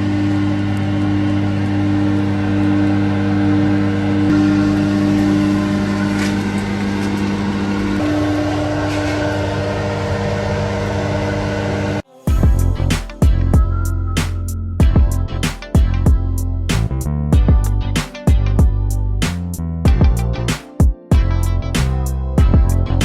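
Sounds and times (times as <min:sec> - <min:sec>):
low machine hum: 0:00.0 - 0:19.1.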